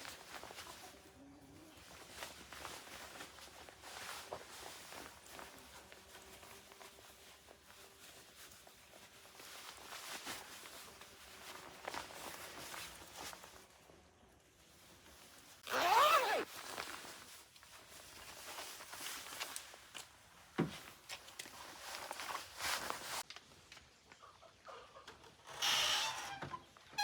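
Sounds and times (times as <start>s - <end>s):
rustling: 0.0s - 13.7s, 14.6s - 23.3s.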